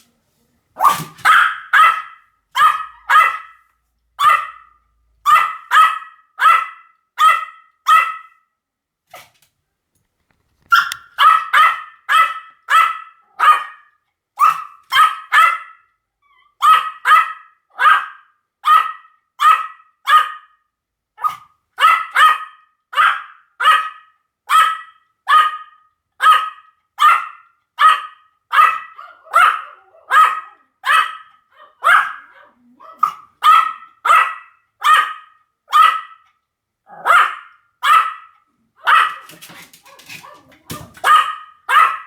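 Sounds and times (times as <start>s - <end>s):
small dog barking: 0.8s - 3.6s, 4.2s - 8.4s, 10.7s - 15.9s, 16.6s - 20.6s, 21.2s - 36.2s, 36.9s - 42.0s.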